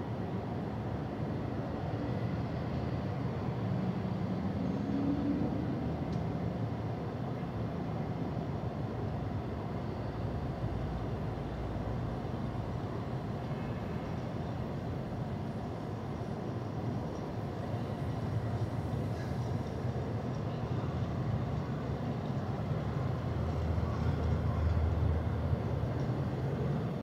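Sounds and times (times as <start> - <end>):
low rumble of street traffic: 0.0 - 27.0.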